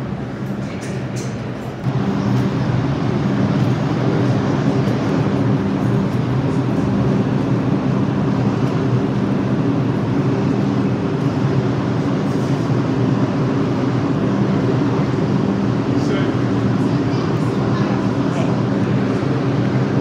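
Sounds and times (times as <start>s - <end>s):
subway train running: 0.0s - 20.0s.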